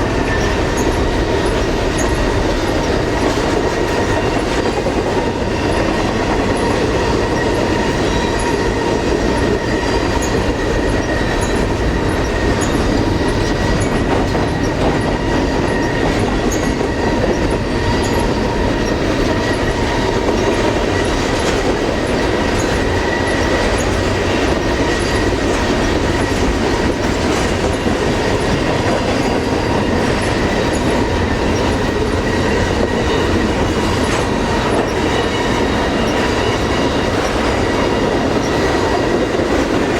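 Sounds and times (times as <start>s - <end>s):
train wheels rumbling on rail: 0.0s - 39.9s
wheels clacking over rail joints: 0.0s - 39.9s
high wheel squeal: 5.2s - 39.4s.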